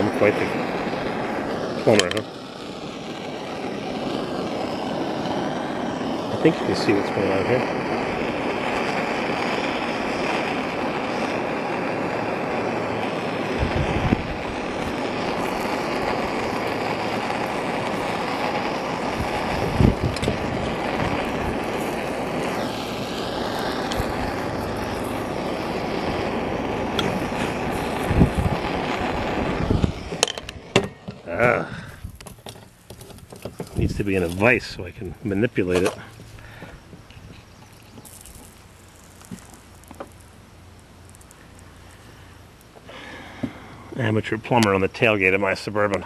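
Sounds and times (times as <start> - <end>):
soldering torch roaring: 0.0 - 46.0.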